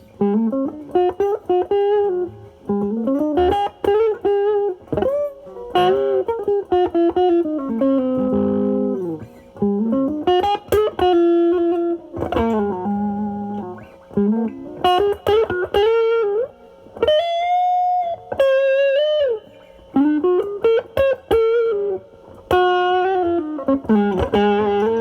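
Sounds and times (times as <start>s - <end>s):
electric guitar blues phrases: 0.0s - 25.0s.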